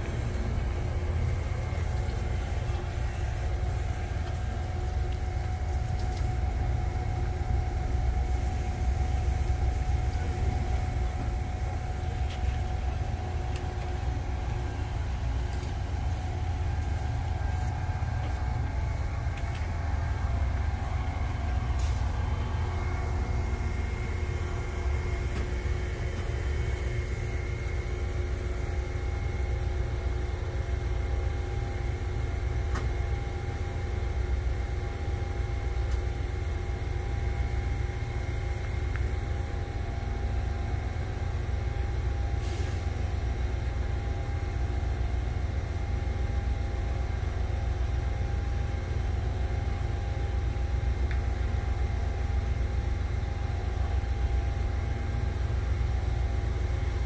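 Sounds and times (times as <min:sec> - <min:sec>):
diesel locomotive rumble: 0:00.0 - 0:57.0
steady hum: 0:00.0 - 0:57.0.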